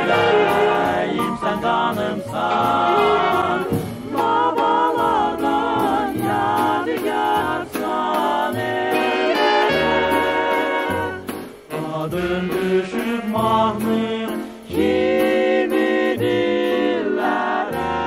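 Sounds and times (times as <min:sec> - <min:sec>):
voices singing over a beat: 0:00.0 - 0:18.0.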